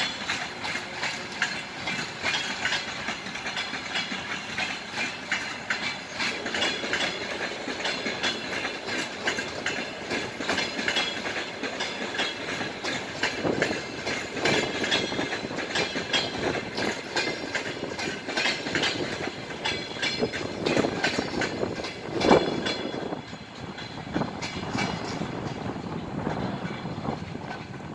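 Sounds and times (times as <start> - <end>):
train wheels clacking over rail joints: 0.0 - 27.9.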